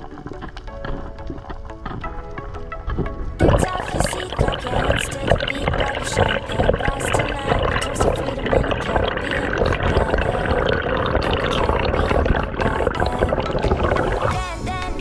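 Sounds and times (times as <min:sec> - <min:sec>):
water rushing underwater: 0:00.0 - 0:14.5
bubbling: 0:00.0 - 0:15.0.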